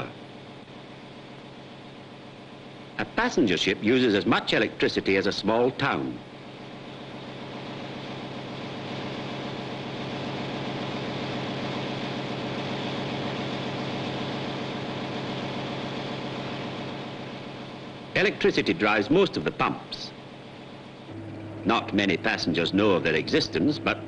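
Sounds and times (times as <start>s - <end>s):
engine-room machinery hum and hiss: 0.0s - 24.0s.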